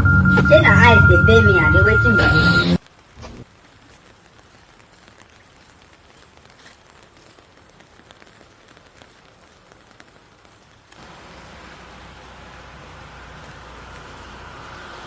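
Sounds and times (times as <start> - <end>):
light rain hiss: 2.8 - 15.0.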